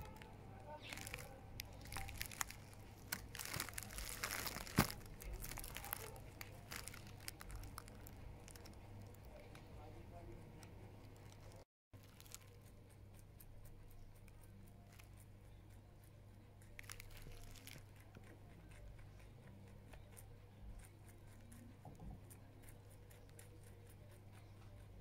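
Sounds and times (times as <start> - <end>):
rabbit chewing greens: 0.0 - 25.0.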